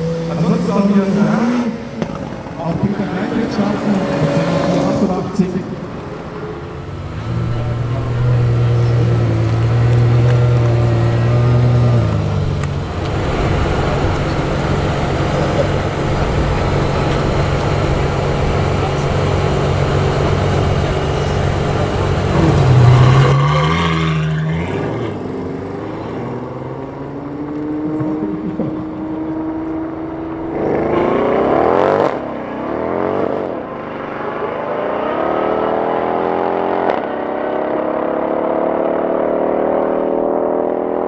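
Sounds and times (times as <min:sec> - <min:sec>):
sports car engine accelerating hard: 0:00.0 - 0:41.0.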